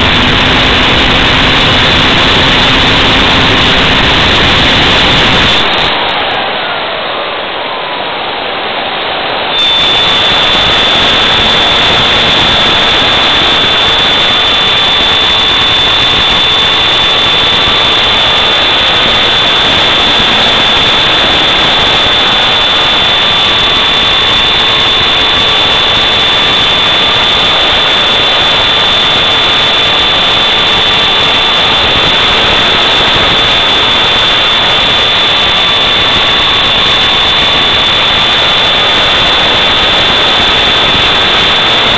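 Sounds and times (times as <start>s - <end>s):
model aircraft motor whine: 0.0s - 6.0s, 9.6s - 41.9s
propeller rush of noise: 0.0s - 7.0s, 9.2s - 41.9s
constant high-pitched whine: 0.0s - 41.9s.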